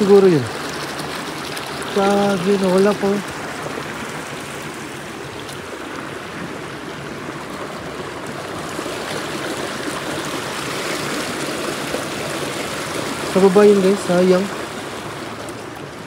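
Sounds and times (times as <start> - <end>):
river water rushing and trickling: 0.0 - 16.0.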